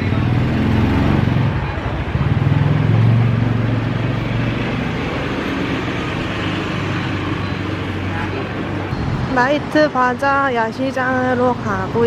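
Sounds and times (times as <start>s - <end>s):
vehicle engine running close by: 0.0s - 10.2s
traffic rumble: 0.0s - 12.0s.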